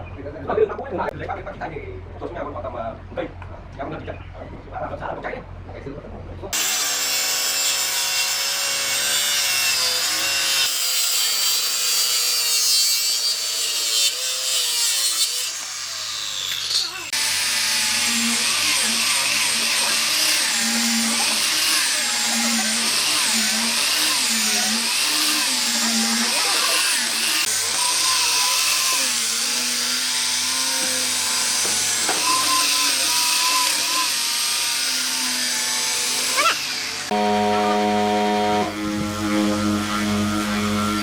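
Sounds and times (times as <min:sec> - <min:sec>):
power tool working wood: 0:06.6 - 0:41.0.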